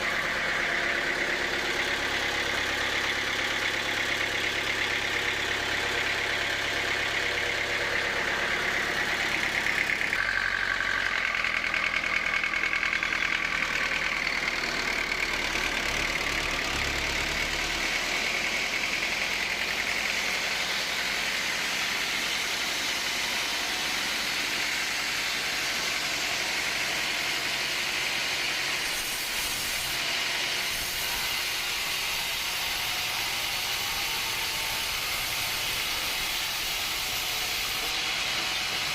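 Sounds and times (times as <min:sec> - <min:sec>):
motor drone: 0:00.0 - 0:38.9.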